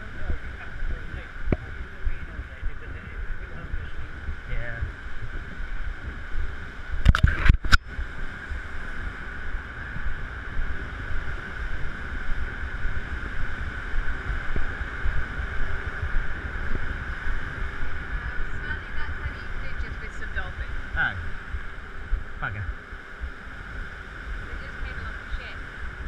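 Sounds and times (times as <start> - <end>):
steady rushing hiss: 0.0 - 26.0
wind buffeting microphone: 0.0 - 26.0.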